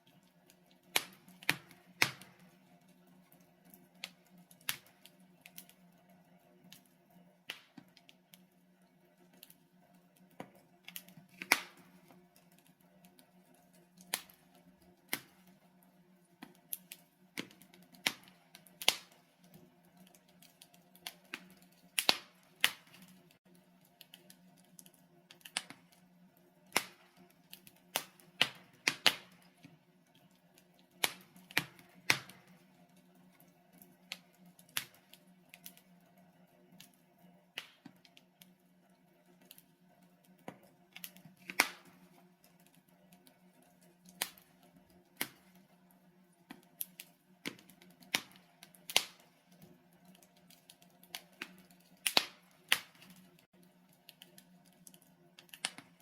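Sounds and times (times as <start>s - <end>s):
logs crackling in a fireplace: 0.0s - 56.0s.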